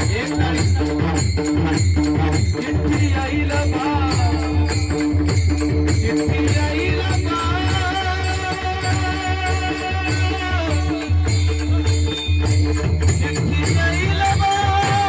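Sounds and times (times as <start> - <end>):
rattling percussion: 0.0 - 15.0.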